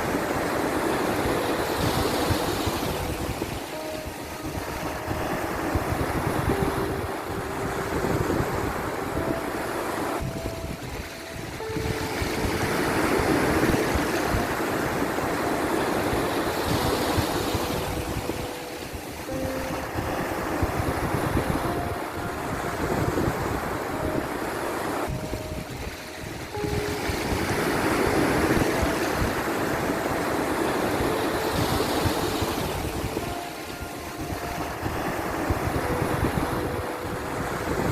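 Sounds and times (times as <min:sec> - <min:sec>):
ocean surf washing: 0:00.0 - 0:37.9
soft held melody notes: 0:00.0 - 0:37.9.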